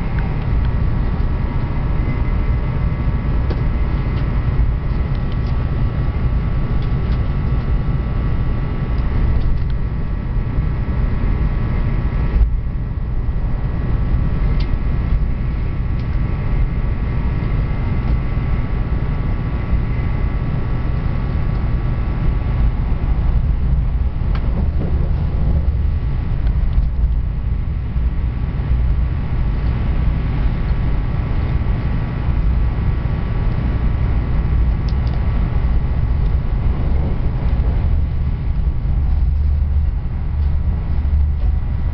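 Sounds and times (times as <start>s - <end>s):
train rumbling: 0.0s - 41.9s.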